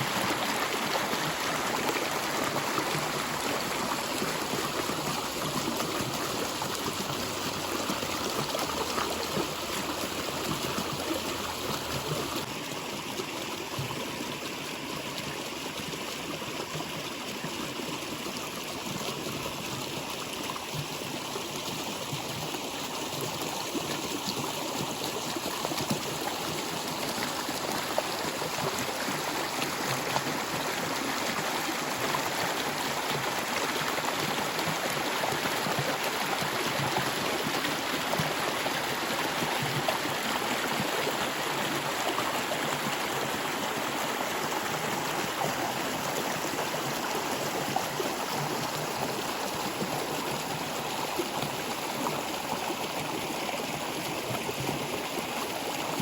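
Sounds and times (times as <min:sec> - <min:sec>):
stream water flowing and gurgling: 0:00.0 - 0:56.0.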